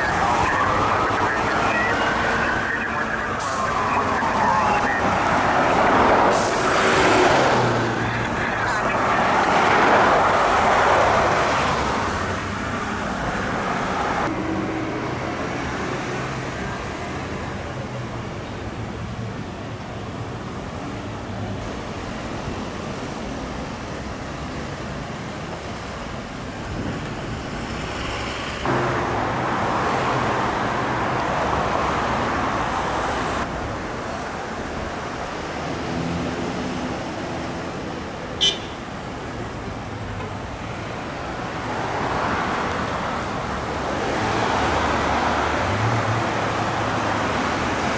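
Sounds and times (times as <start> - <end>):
cars passing: 0.0 - 47.9.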